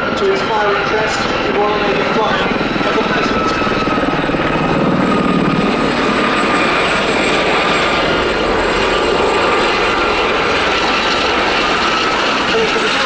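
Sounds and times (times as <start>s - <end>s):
helicopters flying past: 0.0s - 13.0s.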